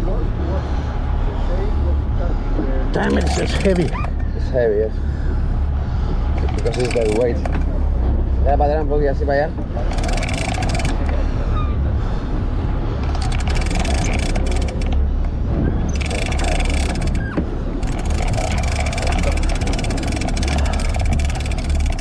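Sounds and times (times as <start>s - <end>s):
boat engine humming: 0.0s - 22.0s
wind noise: 0.0s - 22.0s.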